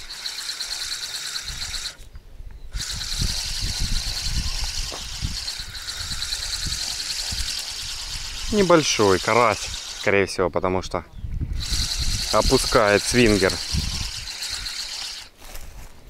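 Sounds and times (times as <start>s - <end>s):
insects chirring: 0.0s - 2.1s, 2.7s - 10.4s, 11.5s - 15.4s.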